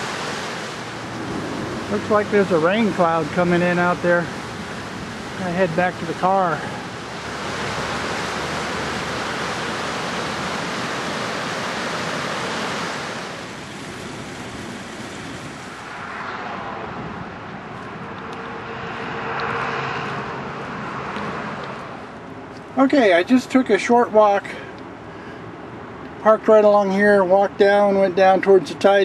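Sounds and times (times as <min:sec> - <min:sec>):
ocean surf: 0:00.0 - 0:26.0
wind: 0:00.0 - 0:29.0.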